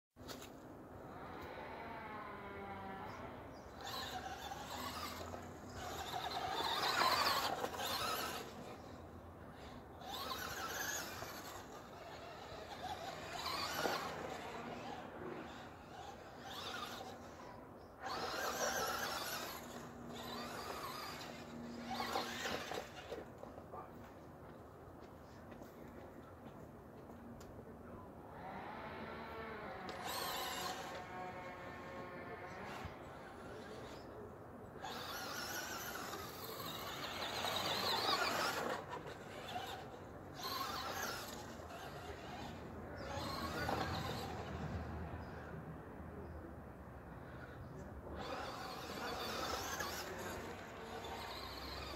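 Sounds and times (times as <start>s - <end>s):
electric motor whining: 1.1s - 23.3s, 28.3s - 34.2s, 34.8s - 45.5s, 47.2s - 51.9s.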